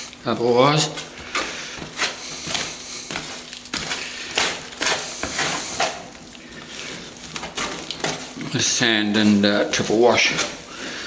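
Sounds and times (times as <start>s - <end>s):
trowel scraping gritty mix: 0.3s - 11.0s.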